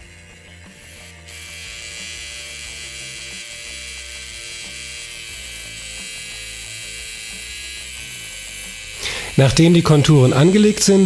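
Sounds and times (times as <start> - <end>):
tattoo machine motor buzz: 0.0 - 11.0.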